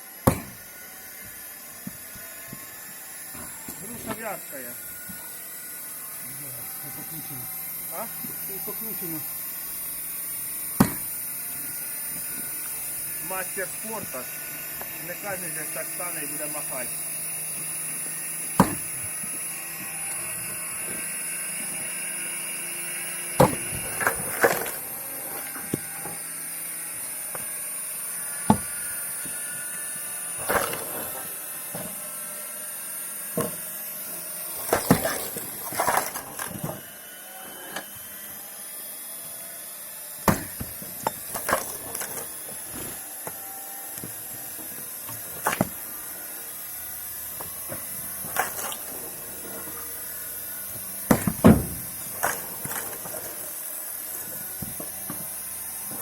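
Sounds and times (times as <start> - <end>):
high-pitched motor whine: 0.0 - 56.0.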